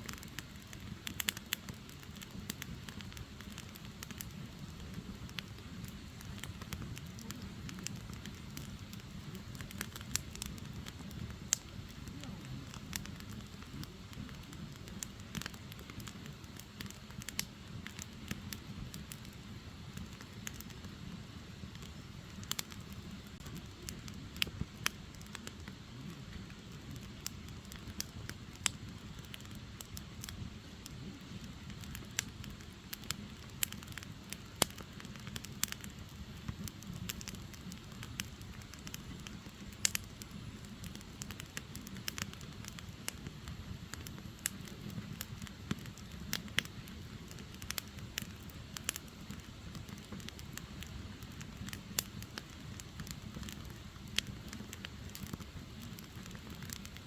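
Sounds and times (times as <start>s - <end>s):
firewood crackling and popping: 0.0s - 57.0s
low rumble of fire: 0.0s - 57.0s.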